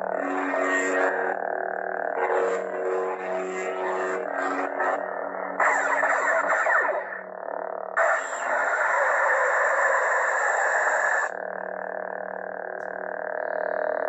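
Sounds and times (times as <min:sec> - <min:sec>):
lightsaber electric hum: 0:00.0 - 0:14.0
harsh sustained lightsaber effect: 0:00.1 - 0:07.3, 0:08.0 - 0:12.6.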